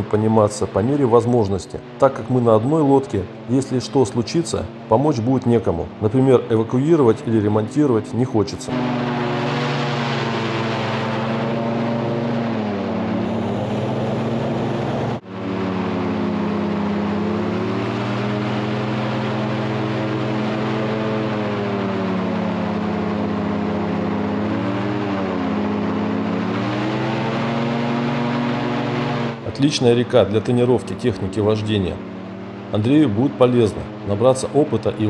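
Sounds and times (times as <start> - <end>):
airboat engine and propeller drone: 0.0 - 35.0.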